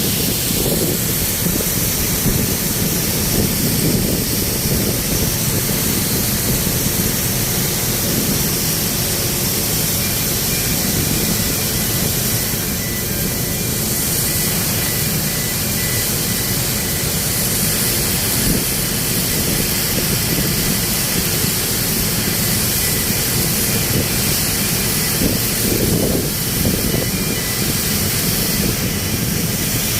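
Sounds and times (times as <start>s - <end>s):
loud steady hiss: 0.0s - 29.9s
low mechanical rumble: 0.0s - 29.9s.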